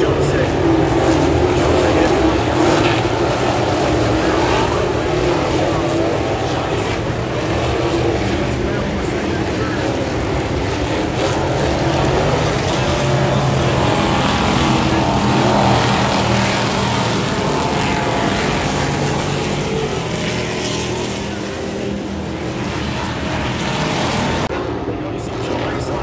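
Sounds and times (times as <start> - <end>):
truck engine running at high revs: 0.0 - 26.0.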